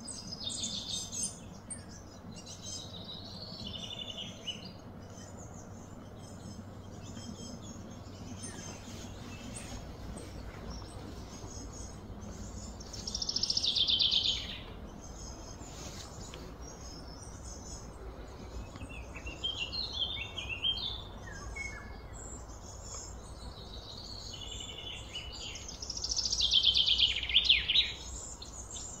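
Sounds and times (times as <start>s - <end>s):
small birds chirping: 0.0s - 29.0s
steady background noise: 0.0s - 29.0s.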